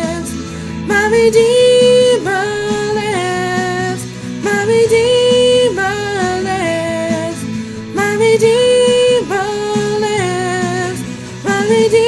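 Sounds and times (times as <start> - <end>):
woman singing gospel: 0.0 - 12.0.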